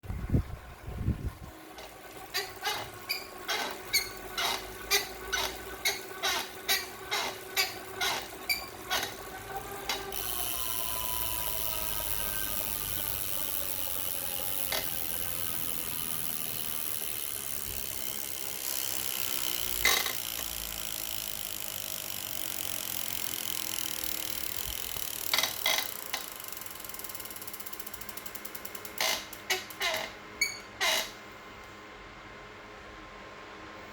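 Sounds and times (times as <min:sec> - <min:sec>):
bike trainer whirring: 0:00.0 - 0:31.4
bike trainer squeaking: 0:01.4 - 0:31.2.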